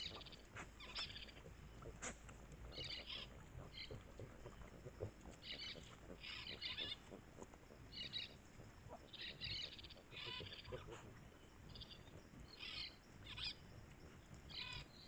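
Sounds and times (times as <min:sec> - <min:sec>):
bird buzzy trills: 0:00.0 - 0:15.0.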